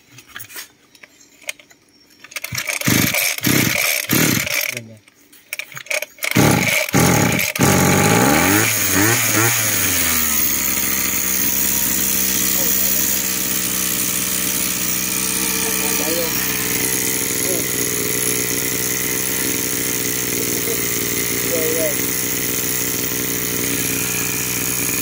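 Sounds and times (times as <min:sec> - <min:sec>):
recoil starter pulls: 0:01.4 - 0:25.0
brush cutter engine running: 0:02.3 - 0:25.0.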